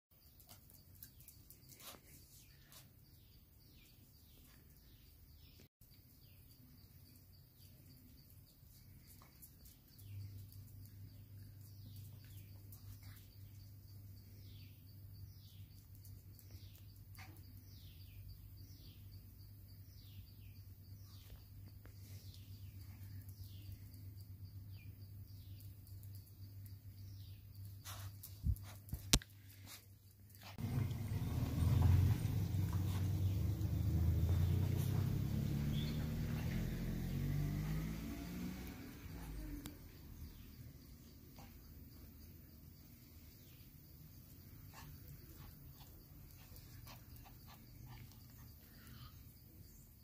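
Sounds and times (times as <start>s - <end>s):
bird chirping: 0.1s - 50.0s.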